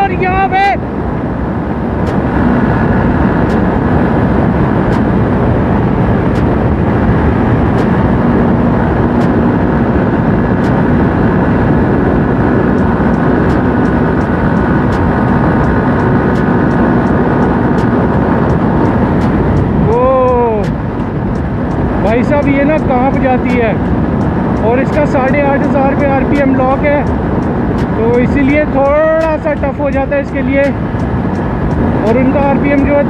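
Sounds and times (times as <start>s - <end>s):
wind roar: 0.0s - 33.0s
motorcycle engine roar: 0.8s - 33.0s.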